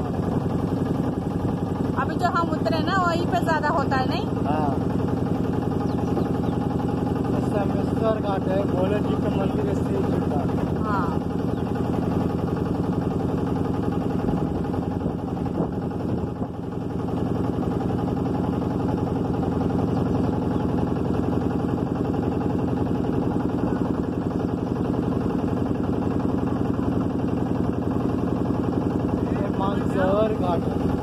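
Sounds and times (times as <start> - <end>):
motorboat engine running: 0.0 - 31.0.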